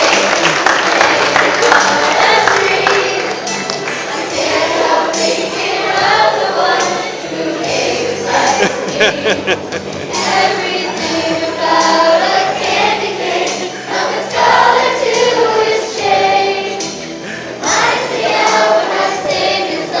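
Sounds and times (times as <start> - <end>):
children's choir singing: 0.0 - 20.0
musical accompaniment: 0.0 - 20.0.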